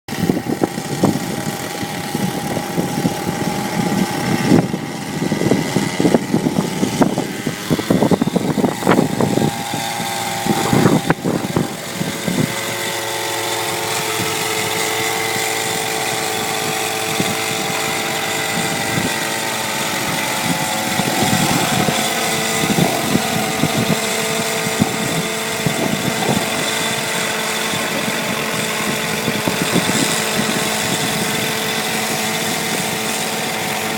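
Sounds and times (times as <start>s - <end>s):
helicopter engine and rotor drone: 0.1s - 33.9s
wind buffeting microphone: 0.1s - 33.9s.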